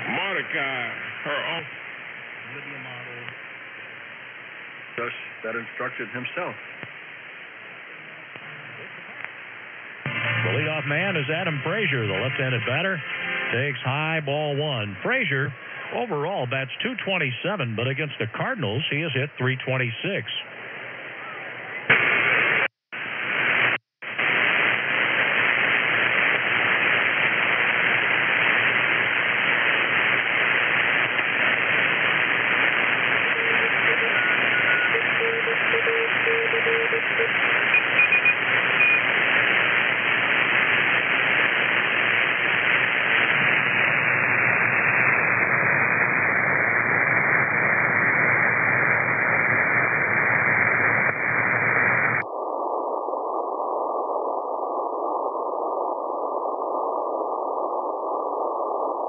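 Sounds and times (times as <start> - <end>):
radio band noise hiss: 0.0 - 59.0.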